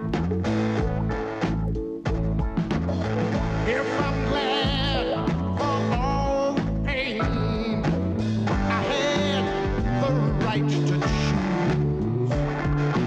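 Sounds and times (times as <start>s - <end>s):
guitar: 0.0s - 13.0s
rock music: 0.0s - 13.0s
steady bass line: 0.0s - 13.0s.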